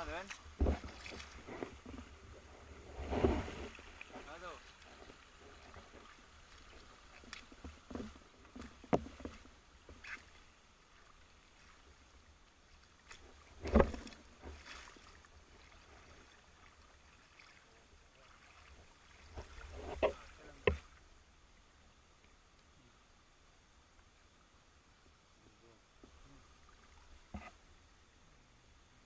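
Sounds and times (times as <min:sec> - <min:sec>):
water splashing and sloshing: 0:00.0 - 0:22.5, 0:25.9 - 0:28.1.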